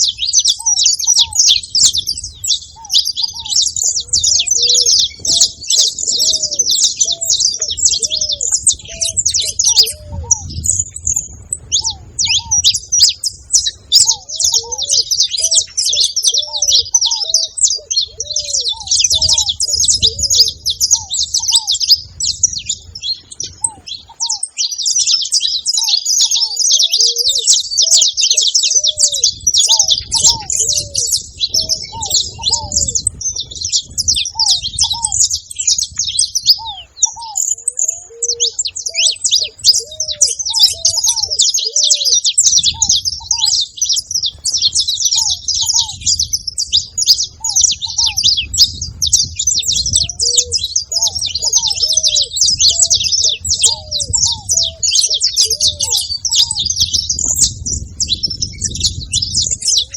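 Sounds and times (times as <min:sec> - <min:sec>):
finches chirping and singing: 0:00.0 - 0:59.9.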